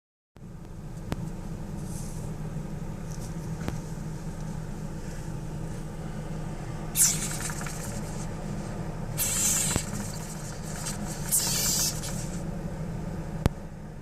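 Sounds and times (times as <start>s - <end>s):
steady low hum: 0.4s - 14.0s.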